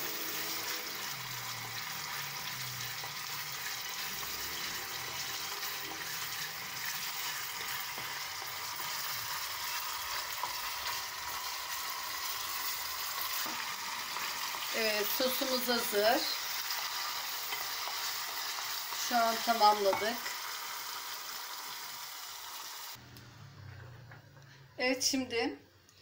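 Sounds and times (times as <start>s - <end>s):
sauce sizzling in a saucepan: 0.0s - 23.0s.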